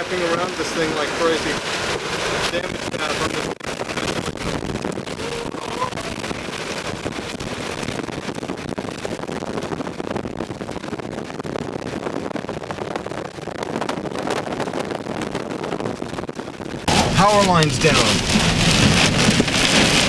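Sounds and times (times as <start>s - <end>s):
dense fine crackling: 0.0s - 20.0s.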